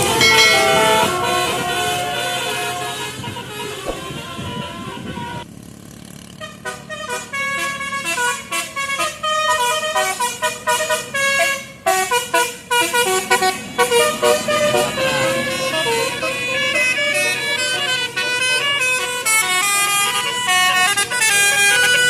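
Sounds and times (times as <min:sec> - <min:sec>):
multi-tone air horn tune: 0:00.0 - 0:05.5, 0:06.4 - 0:22.0.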